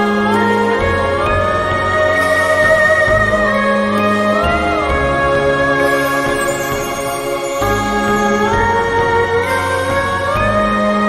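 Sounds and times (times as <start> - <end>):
slow synthesized meditation music: 0.0 - 11.0.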